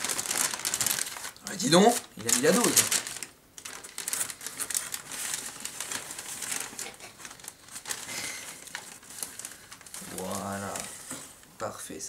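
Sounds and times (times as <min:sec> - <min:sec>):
newspaper crinkling and rustling: 0:00.0 - 0:11.5.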